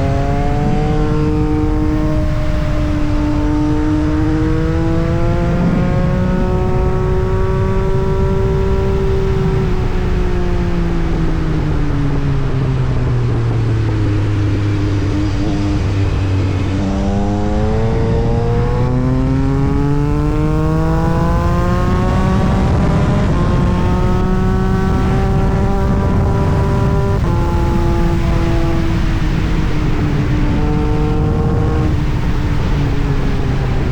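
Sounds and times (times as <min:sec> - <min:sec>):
motorcycle engine shifting gears: 0:00.0 - 0:33.9.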